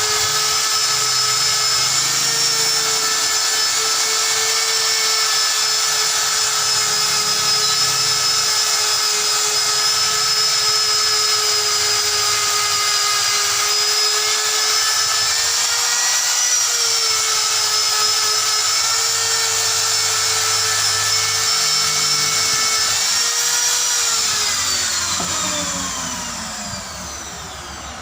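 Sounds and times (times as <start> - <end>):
rotary power tool whining: 0.0 - 28.0.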